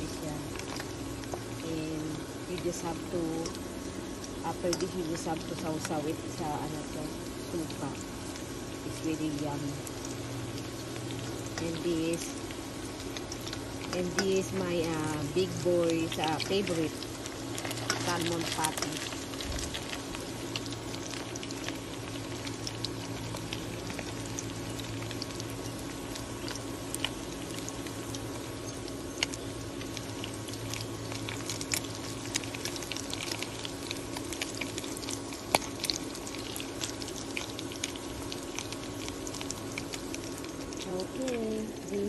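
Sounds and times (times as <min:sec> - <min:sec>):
patties sizzling in hot oil: 0:00.0 - 0:42.0
steady low hum: 0:00.0 - 0:42.0.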